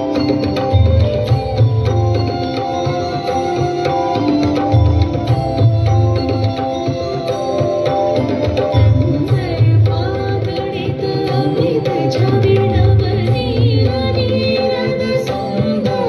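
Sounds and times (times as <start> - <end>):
tabla drumming: 0.0 - 16.0
wavering instrumental melody: 0.0 - 16.0.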